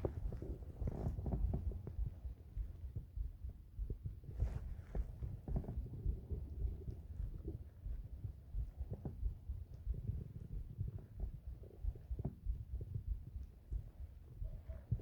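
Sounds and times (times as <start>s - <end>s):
stomach gurgles: 0.0s - 2.3s, 3.9s - 15.0s
heartbeat thudding: 0.0s - 15.0s.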